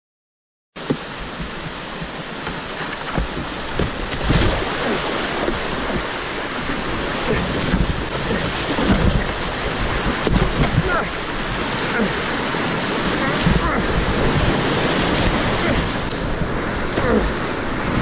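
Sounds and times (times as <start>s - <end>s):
water splashes and thuds: 0.8s - 18.0s
whitewater rushing: 0.8s - 18.0s.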